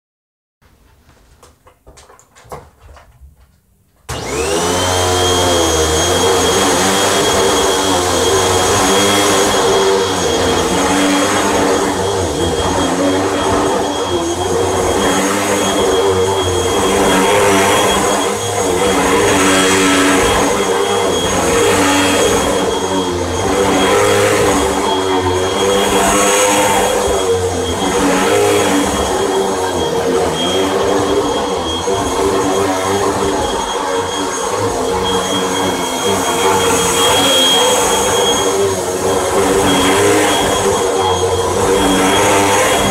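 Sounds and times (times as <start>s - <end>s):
vacuum cleaner motor whine: 4.1s - 42.9s.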